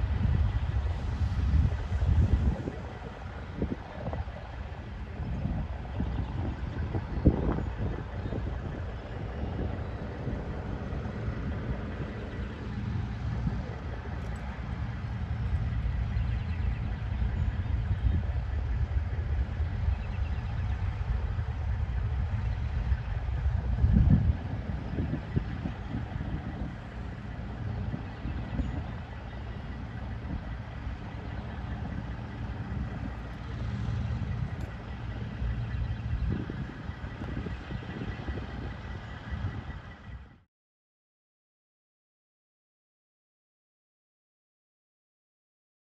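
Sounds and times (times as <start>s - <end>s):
diesel trucks rumbling: 0.0s - 39.9s.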